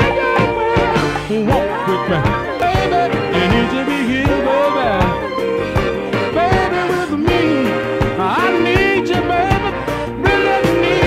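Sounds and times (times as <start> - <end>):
soul music with full band: 0.0 - 11.0.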